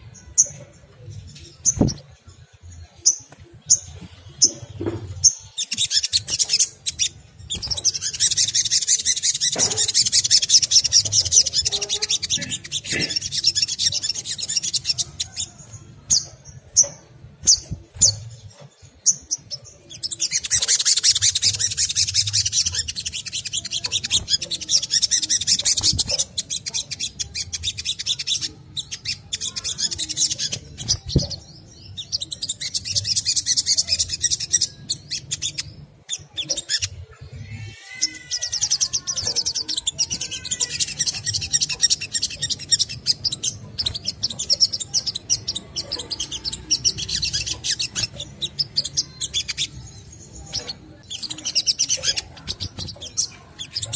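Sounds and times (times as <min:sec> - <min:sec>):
bird chattering twitter: 0:00.0 - 0:53.9.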